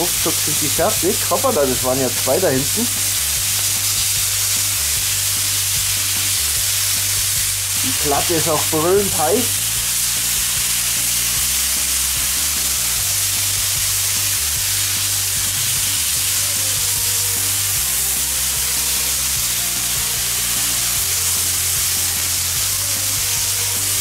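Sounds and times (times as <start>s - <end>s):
background music with bass: 0.0s - 24.0s
meat and onions sizzling: 0.0s - 24.0s.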